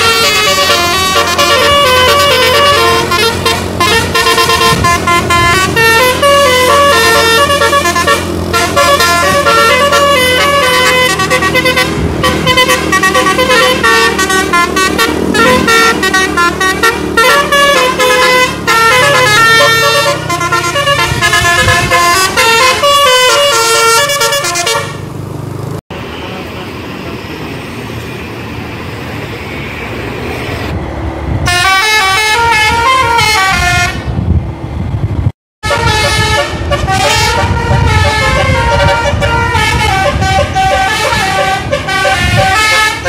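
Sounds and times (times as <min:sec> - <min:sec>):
musical bus horn melody: 0:00.0 - 0:25.1, 0:31.4 - 0:34.1, 0:35.6 - 0:43.0
bus engine running: 0:00.0 - 0:43.0.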